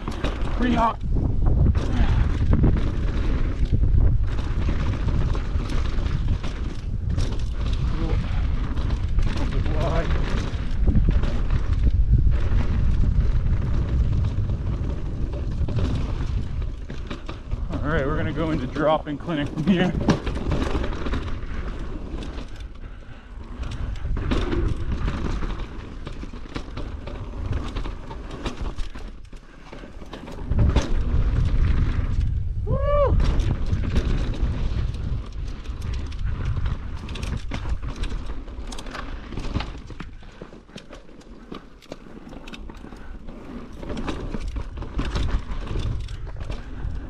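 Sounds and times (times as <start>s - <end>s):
bike clicks and knocks: 0.0s - 47.0s
wind rumbling on microphone: 0.0s - 47.0s.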